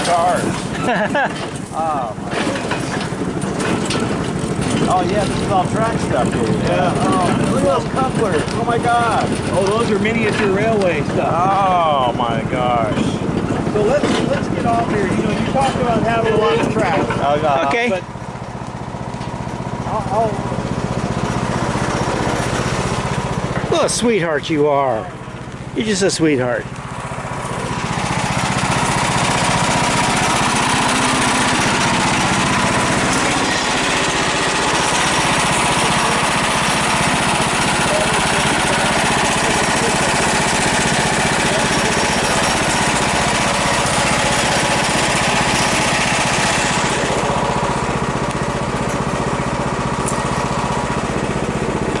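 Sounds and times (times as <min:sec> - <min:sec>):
small locomotive engine running: 0:00.0 - 0:52.0.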